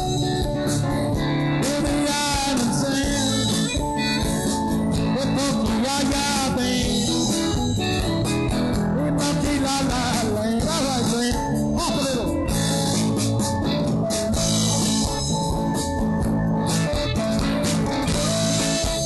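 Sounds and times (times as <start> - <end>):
guitars with bending pitch: 0.0 - 19.0
live band playing: 0.0 - 19.0.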